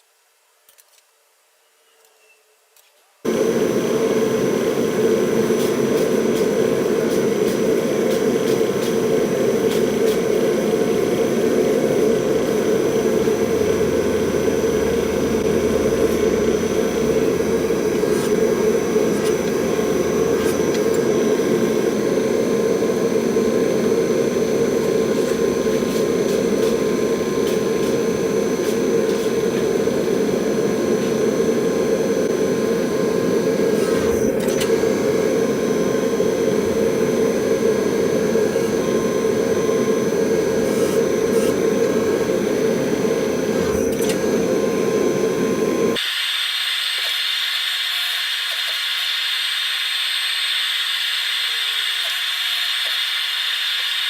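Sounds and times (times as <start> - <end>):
shop machine roaring: 3.2 - 54.0
faint high whine: 3.3 - 54.0.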